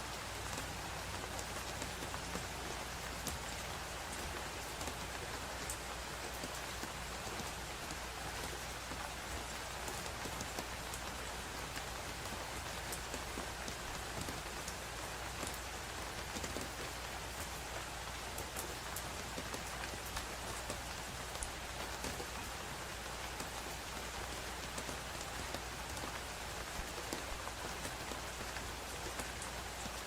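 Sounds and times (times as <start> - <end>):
raindrops ticking on a surface: 0.0 - 30.0.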